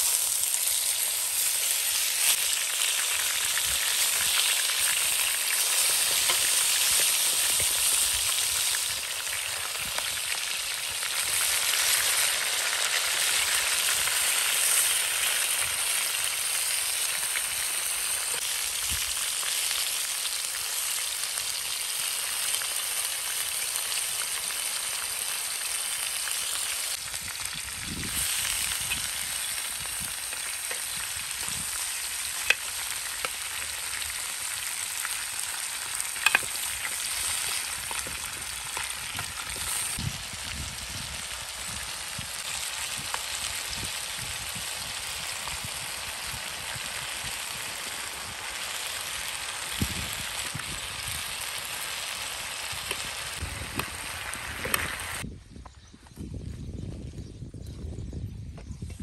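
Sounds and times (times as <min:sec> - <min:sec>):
oil sizzling in a pan: 0:00.0 - 0:55.2.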